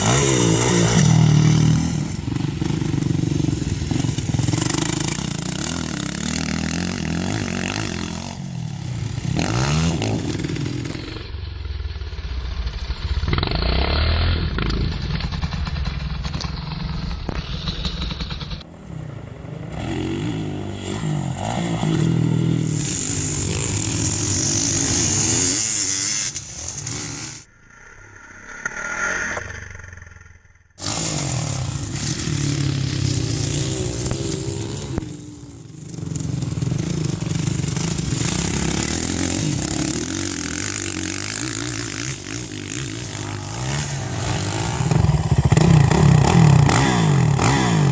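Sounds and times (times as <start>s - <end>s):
motorcycle engine revving: 0.0s - 27.6s, 28.3s - 47.9s.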